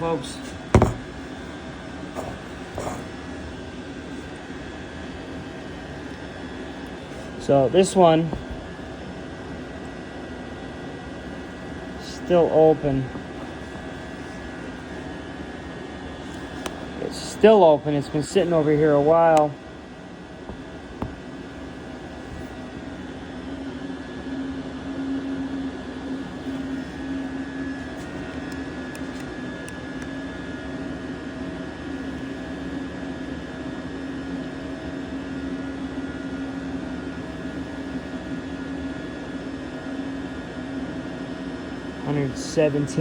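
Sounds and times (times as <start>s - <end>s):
air heater humming with a whine: 0.0s - 43.0s.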